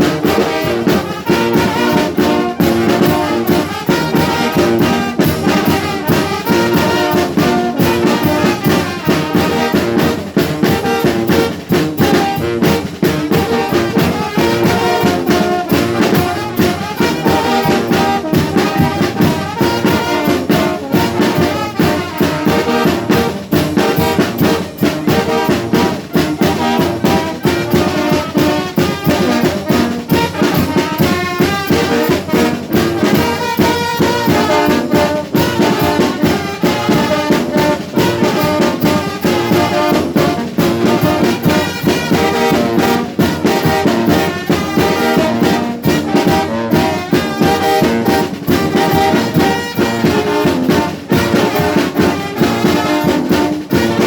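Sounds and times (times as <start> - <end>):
brass horns melody: 0.0 - 54.0
steady drum beat: 0.0 - 54.0.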